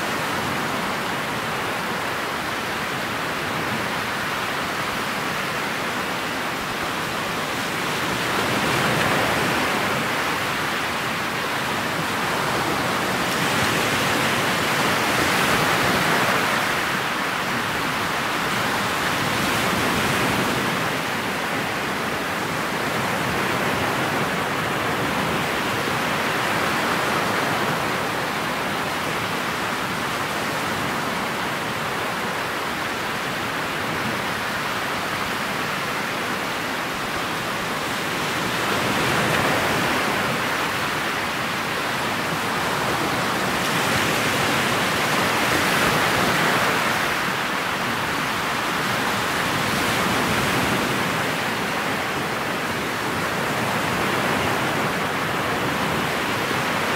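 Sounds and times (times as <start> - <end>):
wind over boat: 0.0 - 56.9.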